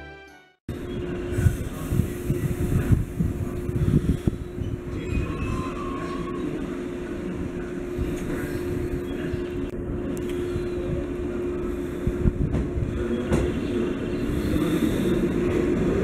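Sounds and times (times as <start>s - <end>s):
train rumbling on track: 0.7s - 16.0s.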